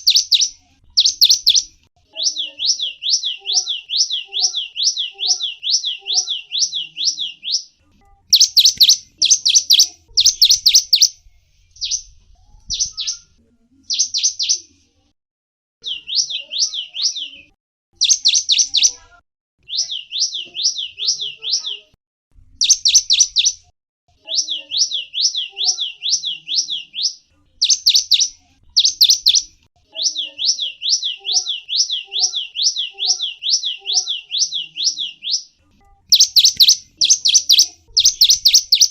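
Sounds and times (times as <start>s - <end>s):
songbird chirping: 0.0s - 14.9s, 15.8s - 22.0s, 22.6s - 38.9s.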